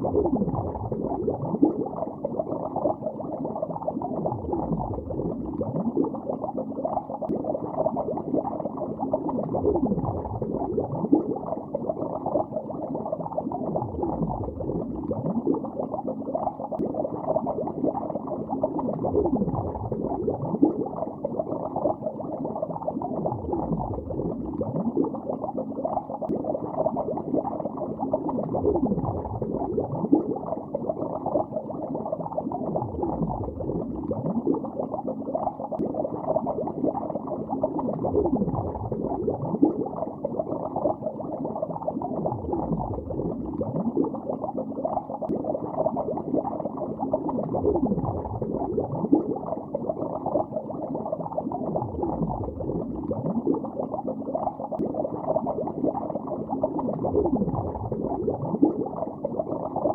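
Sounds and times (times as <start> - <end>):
underwater bubbling: 0.0 - 59.9.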